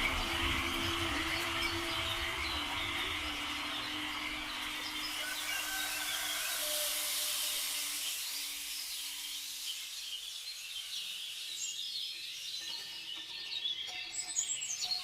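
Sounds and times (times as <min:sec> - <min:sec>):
steady high hiss: 0:00.0 - 0:12.6
bird chirps: 0:00.0 - 0:15.0.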